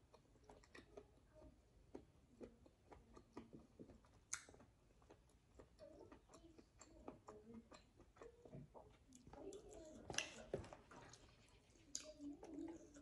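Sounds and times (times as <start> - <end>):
person chewing and lip smacking: 0.0 - 13.0.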